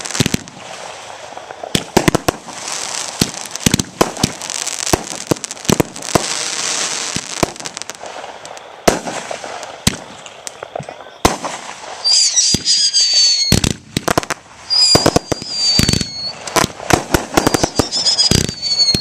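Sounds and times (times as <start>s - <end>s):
firework crackling hiss: 0.0s - 19.0s
firework shells bursting: 1.4s - 19.0s.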